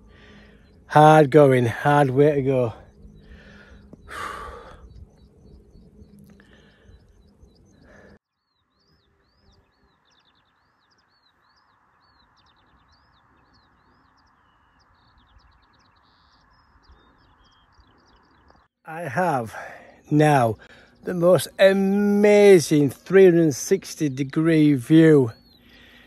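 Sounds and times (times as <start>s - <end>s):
songbird chirping and trilling: 0.0s - 26.0s.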